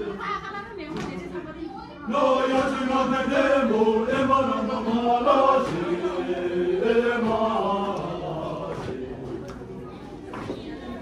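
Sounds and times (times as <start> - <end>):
voices chanting a prayer: 0.0 - 11.0.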